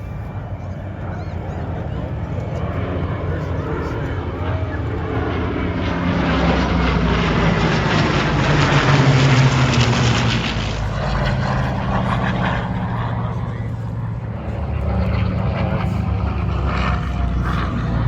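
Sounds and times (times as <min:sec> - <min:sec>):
airplane flying past: 0:00.0 - 0:18.0.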